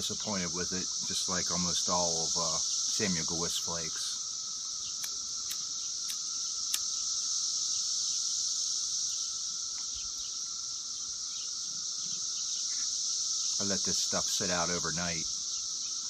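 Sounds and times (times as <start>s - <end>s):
cicadas chorus: 0.0s - 16.0s.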